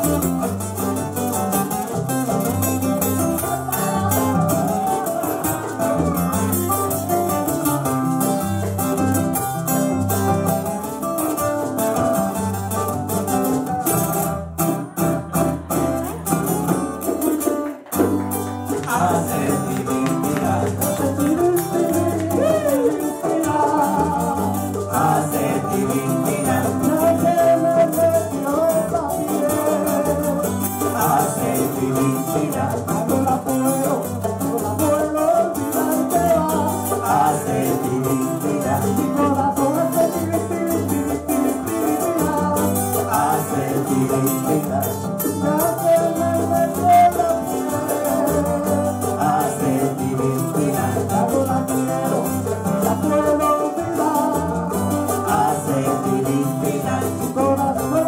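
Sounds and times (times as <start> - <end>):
acoustic guitar: 0.0 - 58.0
hand percussion: 0.0 - 58.0
tres guitar: 0.0 - 58.0.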